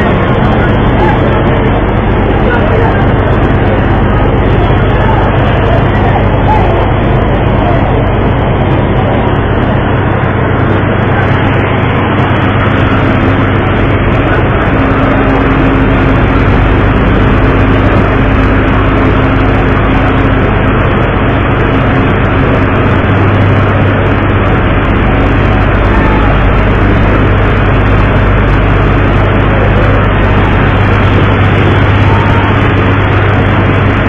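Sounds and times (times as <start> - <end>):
faint held hum: 0.0 - 34.0
ship engine drone: 0.0 - 34.0
wind and water rushing: 0.0 - 34.0.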